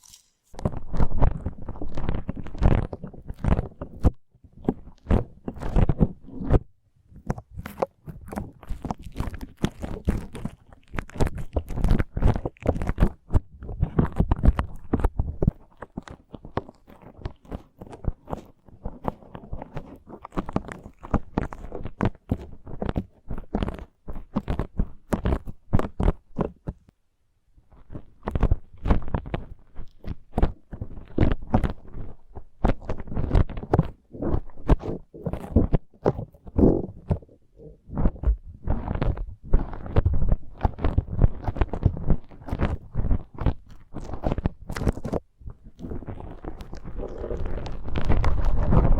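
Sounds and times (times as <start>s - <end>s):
slime squishing with sticky crackles: 0.0s - 26.9s, 27.7s - 48.9s.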